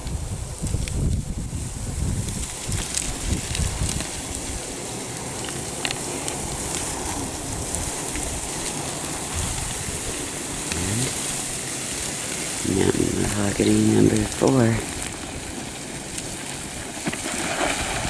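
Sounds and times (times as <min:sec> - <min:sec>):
bush dragged over rocky ground: 0:00.0 - 0:18.0
low rumbling: 0:00.0 - 0:18.0
twigs snapping: 0:02.2 - 0:18.0.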